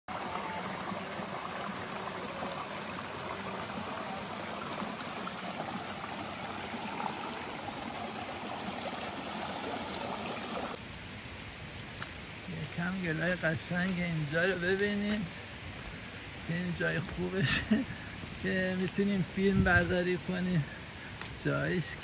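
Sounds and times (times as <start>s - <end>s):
stream trickling over boulders: 0.1s - 22.0s.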